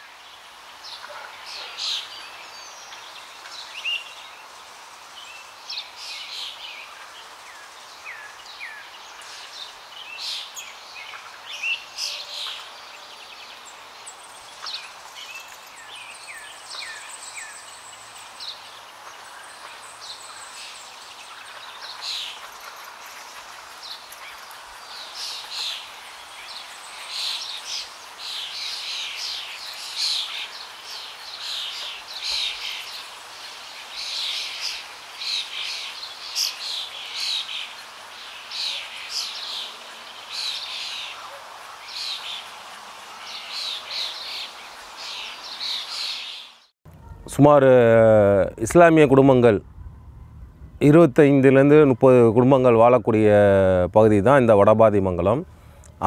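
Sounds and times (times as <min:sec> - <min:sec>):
birds chirping: 0:00.0 - 0:47.6
background hiss: 0:00.0 - 0:56.0.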